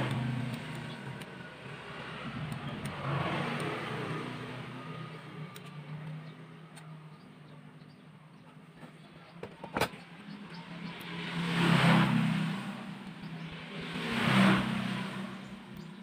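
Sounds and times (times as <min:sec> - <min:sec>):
road vehicles passing by: 0:00.0 - 0:16.0.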